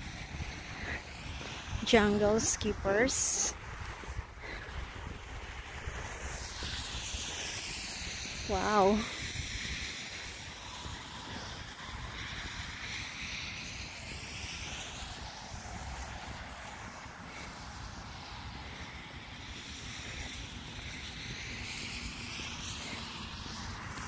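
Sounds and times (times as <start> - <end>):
outdoor rushing noise: 0.0 - 24.0.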